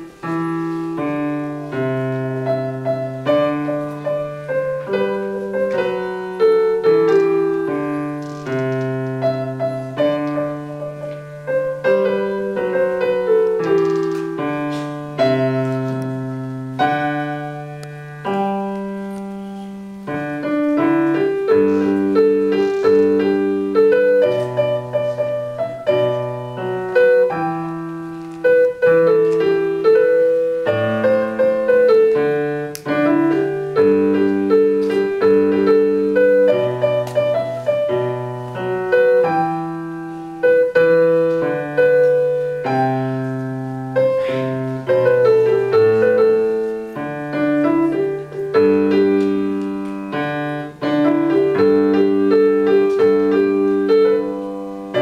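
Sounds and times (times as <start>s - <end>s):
slow gentle piano piece: 0.0s - 55.0s.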